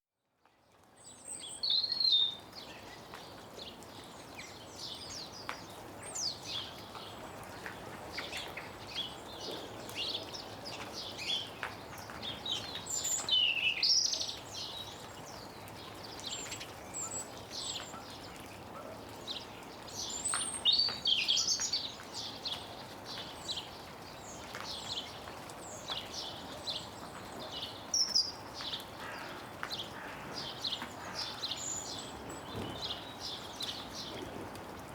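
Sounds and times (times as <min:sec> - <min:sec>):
melting snow dripping: 0:00.4 - 0:34.9
small birds chirping: 0:01.0 - 0:34.4.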